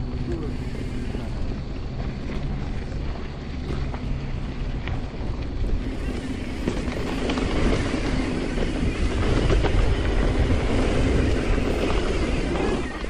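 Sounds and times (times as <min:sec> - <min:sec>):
bike rattling over rocks: 0:02.0 - 0:13.0.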